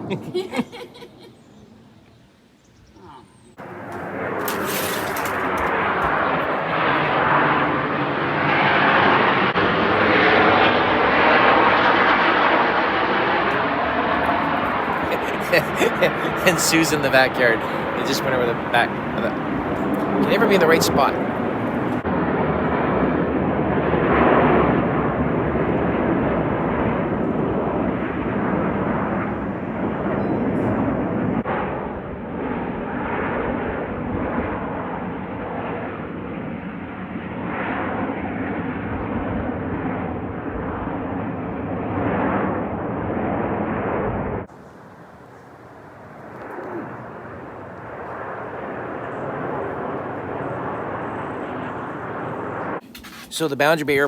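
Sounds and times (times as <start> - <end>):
airplane engine overhead: 0.0 - 54.0.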